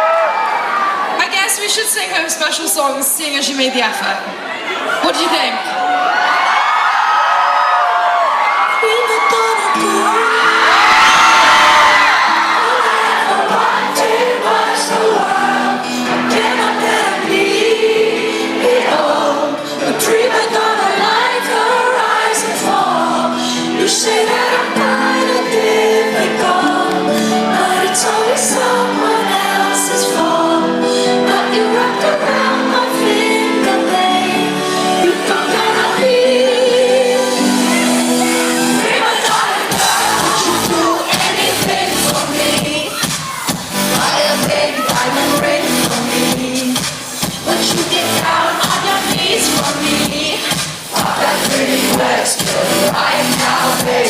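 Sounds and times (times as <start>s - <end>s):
woman singing: 8.7s - 43.3s, 43.9s - 54.0s
live pop band playing: 8.8s - 54.0s.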